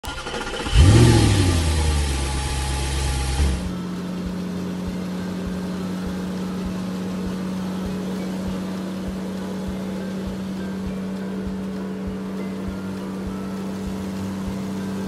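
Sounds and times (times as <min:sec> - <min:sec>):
truck engine revving: 0:00.0 - 0:15.0
steady low hum: 0:01.2 - 0:15.0.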